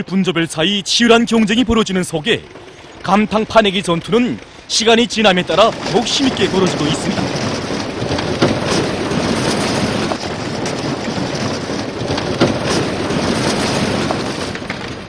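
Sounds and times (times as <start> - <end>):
tractor engines running: 0.0 - 15.0
knocks and clatter: 1.0 - 15.0.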